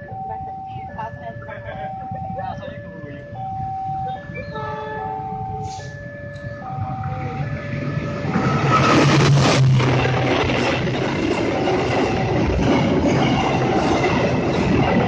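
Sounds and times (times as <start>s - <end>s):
diesel locomotive engine: 0.0s - 15.0s
level crossing warning tones: 0.0s - 15.0s
train wheels on rails: 0.1s - 15.0s.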